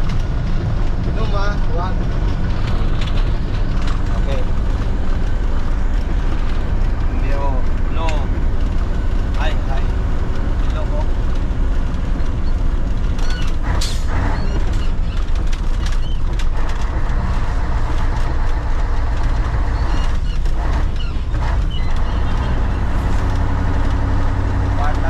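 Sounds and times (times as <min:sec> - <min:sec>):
diesel truck engine droning: 0:00.0 - 0:25.0
knocks and rattles: 0:00.0 - 0:25.0.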